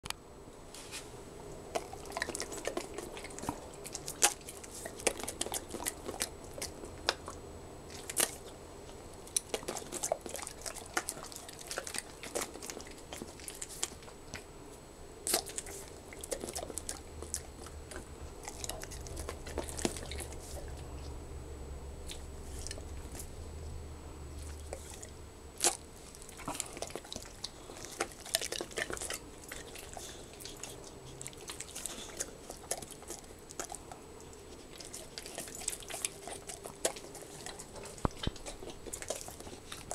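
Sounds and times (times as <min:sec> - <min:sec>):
dogs crunching dry food: 0:01.6 - 0:14.5, 0:15.3 - 0:21.0, 0:22.1 - 0:23.3, 0:24.4 - 0:39.9.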